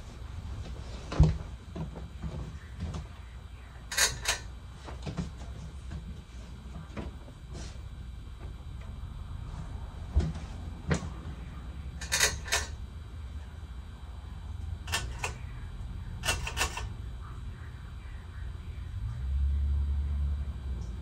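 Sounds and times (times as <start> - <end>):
ceiling fan humming: 0.0 - 21.0.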